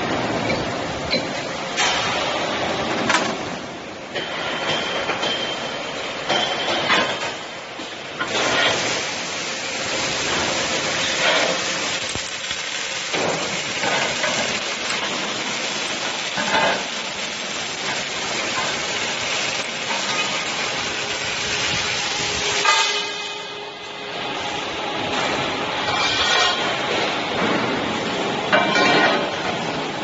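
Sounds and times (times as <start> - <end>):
welding arc crackling hiss: 5.8 - 30.0.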